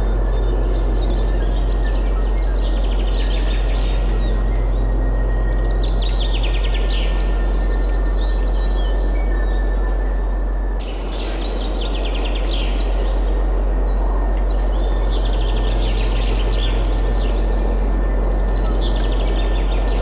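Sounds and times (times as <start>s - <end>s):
songbirds chirping in trills: 0.0s - 20.0s
steady wind: 0.0s - 20.0s.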